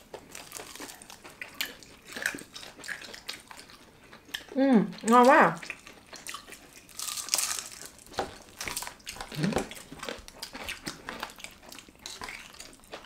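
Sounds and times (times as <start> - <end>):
crunching bites and chewing: 0.0 - 4.5, 5.6 - 13.0.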